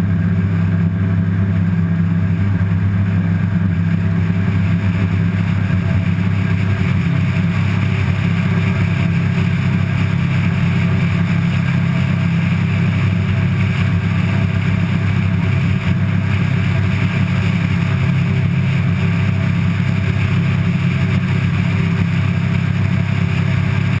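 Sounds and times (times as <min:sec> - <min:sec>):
propeller plane engine at high power: 0:00.0 - 0:24.0.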